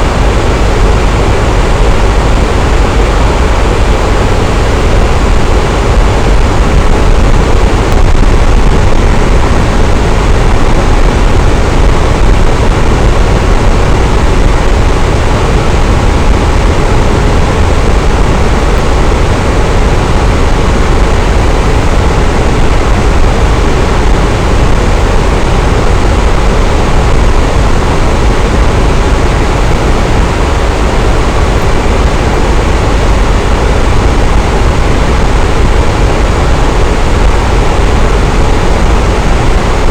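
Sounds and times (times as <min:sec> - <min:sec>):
electric fan whooshing: 0:00.0 - 0:39.9.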